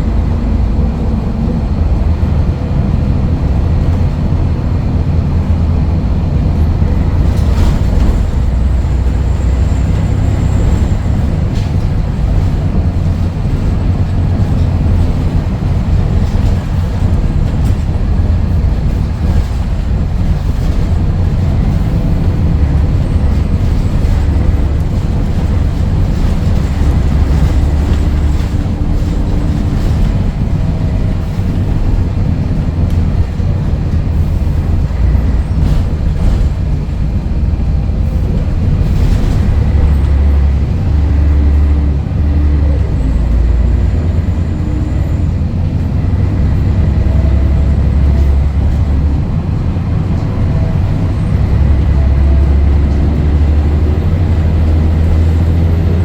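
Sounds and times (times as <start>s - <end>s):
bus diesel engine drone: 0.0s - 56.0s
road rumble: 0.0s - 56.0s.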